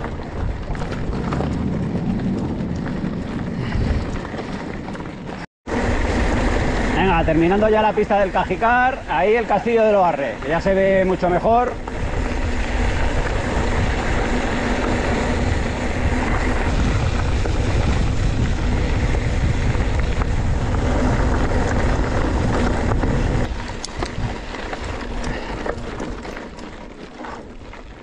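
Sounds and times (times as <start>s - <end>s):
bike clicks and rattles: 0.0s - 8.1s, 10.2s - 28.0s
bike tyres on gravel: 0.0s - 28.0s
wind on microphone: 0.0s - 28.0s.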